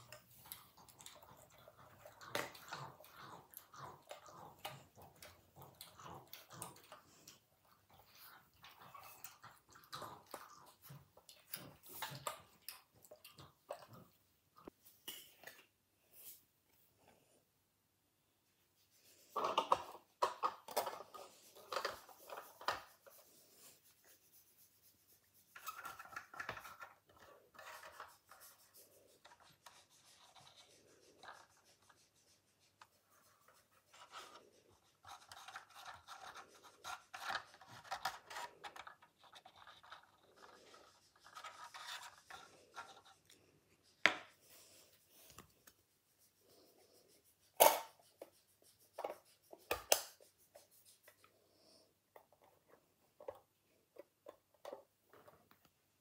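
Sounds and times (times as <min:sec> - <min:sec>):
rubbing and scratching plastic: 0:00.0 - 0:14.8, 0:18.8 - 0:56.0.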